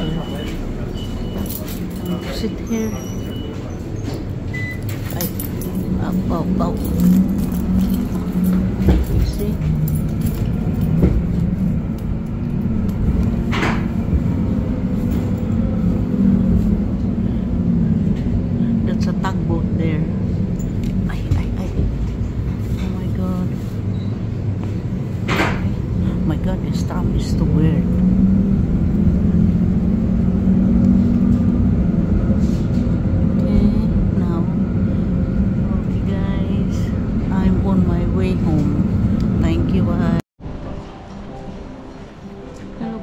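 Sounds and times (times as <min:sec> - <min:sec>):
tram rumbling: 0:00.0 - 0:43.0
low motor hum: 0:04.3 - 0:43.0.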